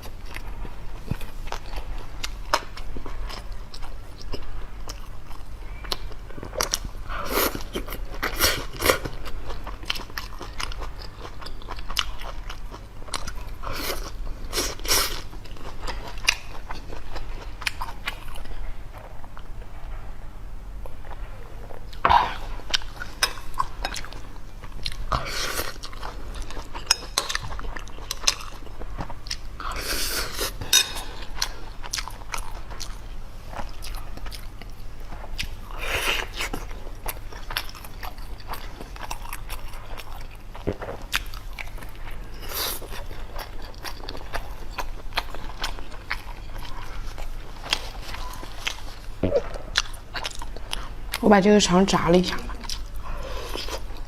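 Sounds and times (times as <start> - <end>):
chewing food: 0.0 - 19.9, 20.8 - 54.0.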